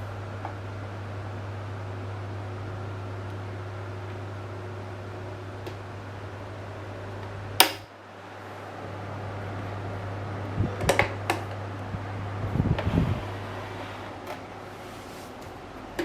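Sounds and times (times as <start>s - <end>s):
fan motor humming: 0.0s - 16.0s.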